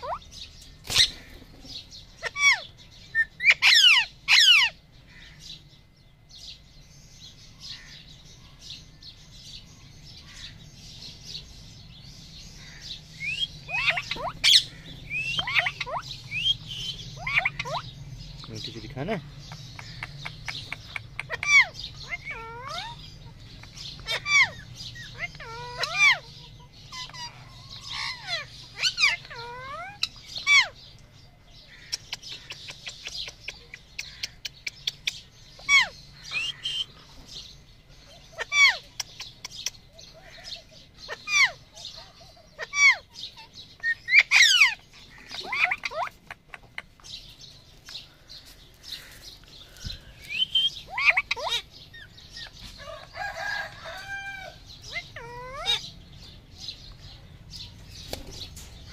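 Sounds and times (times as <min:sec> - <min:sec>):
parakeets chirping and squawking: 0:00.0 - 0:58.9.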